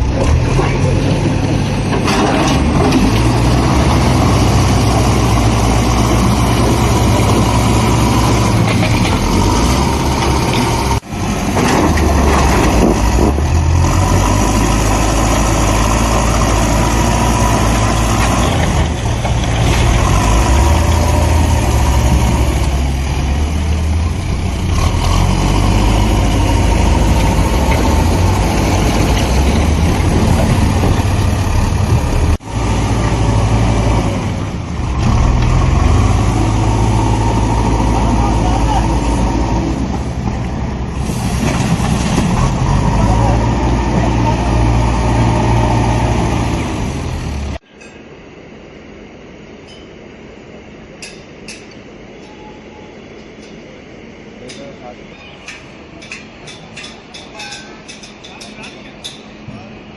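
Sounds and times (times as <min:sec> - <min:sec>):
heavy vehicle engines idling: 0:00.0 - 0:49.6.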